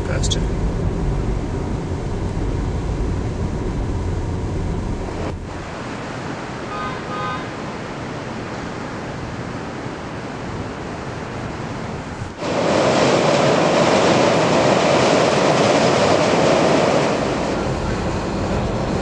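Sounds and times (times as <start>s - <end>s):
traffic: 0.0s - 19.0s
wind: 0.0s - 19.0s.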